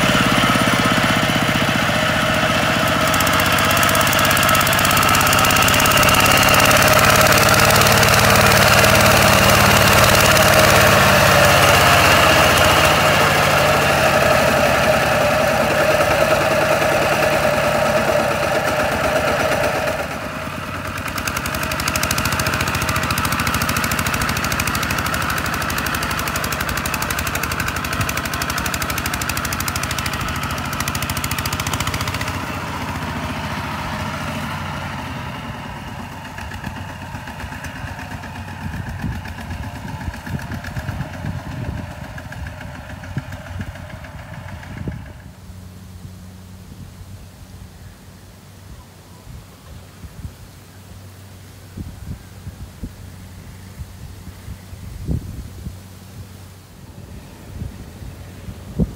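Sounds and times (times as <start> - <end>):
diesel engine running hard: 0.0 - 58.9
wheels churning in mud: 0.0 - 58.9.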